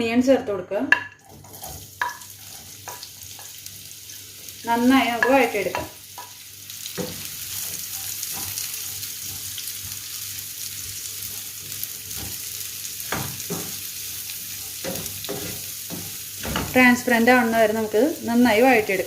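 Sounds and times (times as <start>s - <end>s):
onions sizzling in hot oil: 0.9s - 19.0s.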